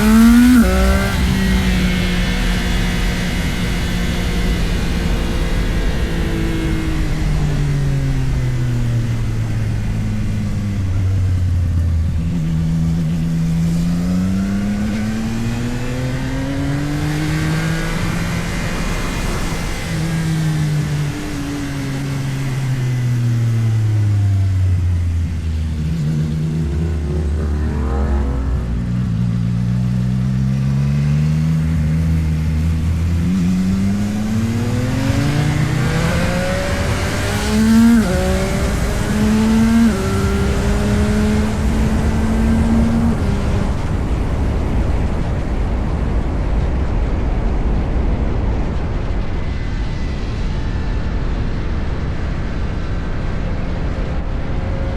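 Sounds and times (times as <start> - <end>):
wind rush: 0.0 - 30.6, 31.7 - 54.9
motorcycle engine revving: 0.0 - 46.0.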